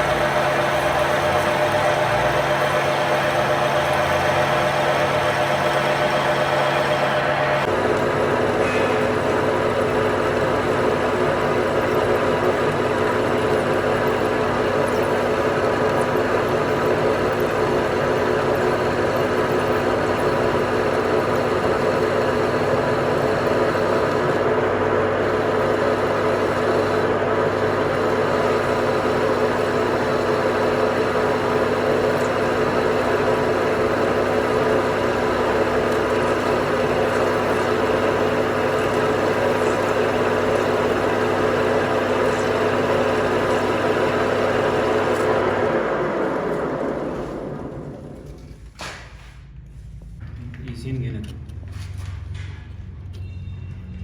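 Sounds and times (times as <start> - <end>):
machine motor hum: 0.0 - 49.0.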